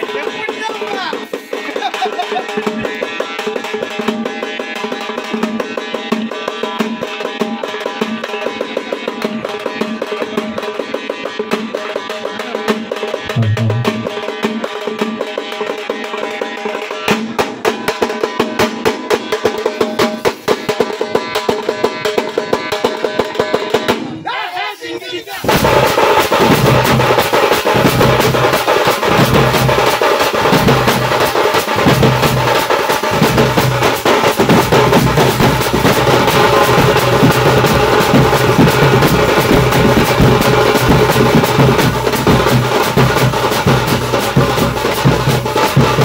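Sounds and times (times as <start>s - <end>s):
drum band playing fast rhythm: 0.0s - 24.0s, 25.4s - 46.0s.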